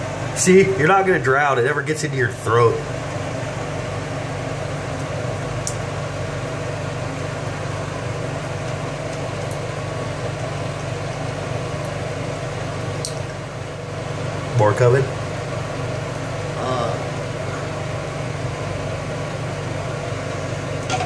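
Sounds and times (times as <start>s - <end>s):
ventilation fan hum: 0.0s - 21.0s.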